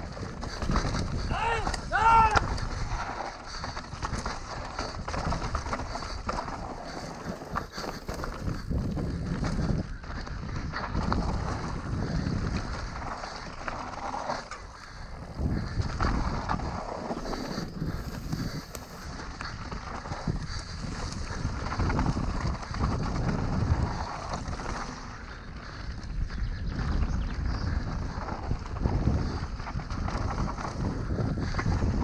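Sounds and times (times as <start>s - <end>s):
bike rattling and knocking: 0.0s - 32.0s
tyres rolling on dirt: 0.0s - 32.0s
wind buffeting microphone: 0.0s - 32.0s.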